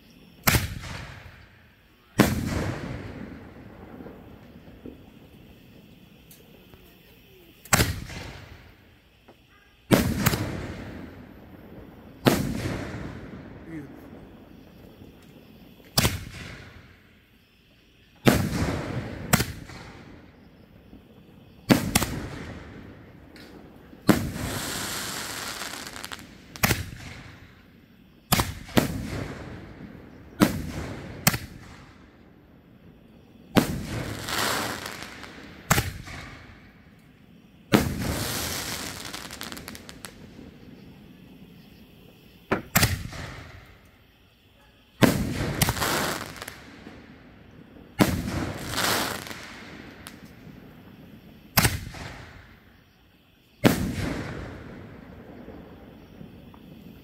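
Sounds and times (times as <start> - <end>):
firework shells booming: 0.4 - 17.2, 18.2 - 57.0.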